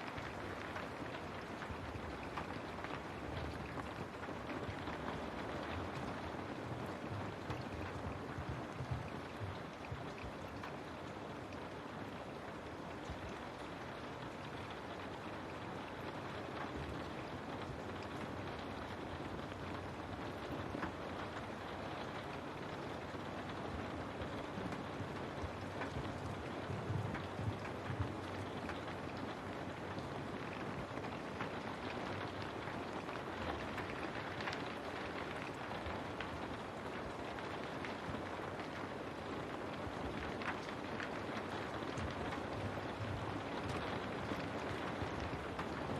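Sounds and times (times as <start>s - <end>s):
rain on a window pane: 0.0s - 45.9s.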